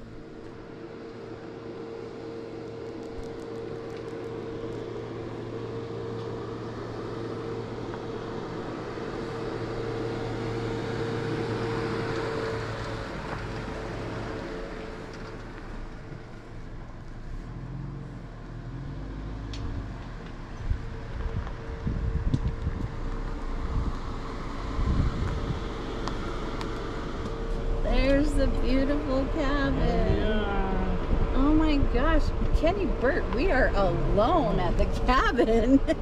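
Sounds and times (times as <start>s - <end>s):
car driving on dirt track: 0.0s - 36.0s.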